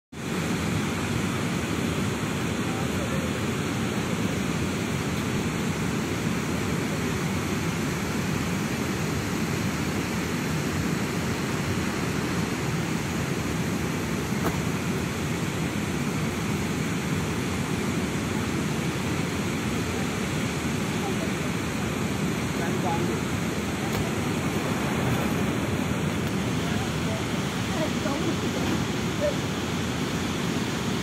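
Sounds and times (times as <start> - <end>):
river water rushing over a weir: 0.2 - 31.0.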